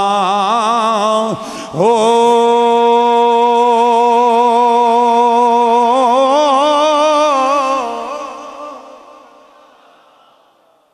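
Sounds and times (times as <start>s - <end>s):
man singing a long note: 0.0s - 10.2s.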